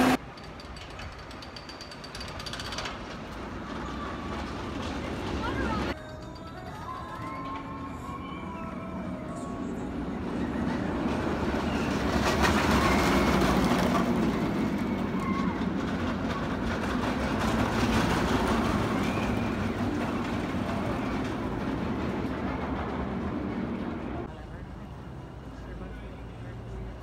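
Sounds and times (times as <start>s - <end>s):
roller coaster rumbling on track: 0.0s - 27.0s.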